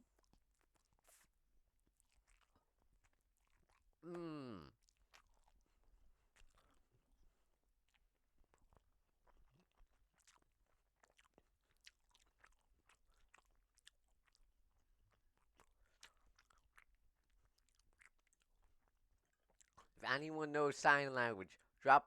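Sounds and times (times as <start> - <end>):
faint chewing of noodles: 0.0 - 20.0.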